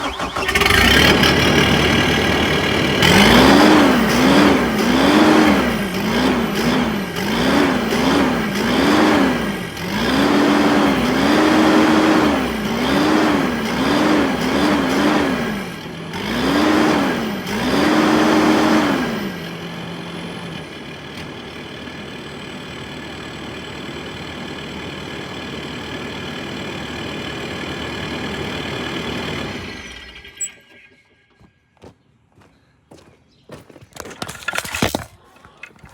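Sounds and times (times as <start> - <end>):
diesel engine revving: 0.0 - 31.2.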